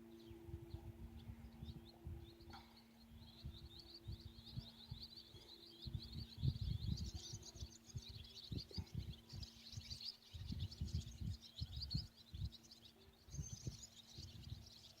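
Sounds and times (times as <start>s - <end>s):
faint low hum: 0.0s - 15.0s
small birds chirping: 0.0s - 15.0s.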